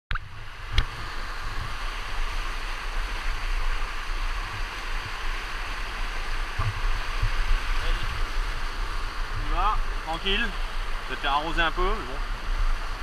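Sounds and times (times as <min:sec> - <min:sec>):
waterfall rushing: 0:00.2 - 0:13.0.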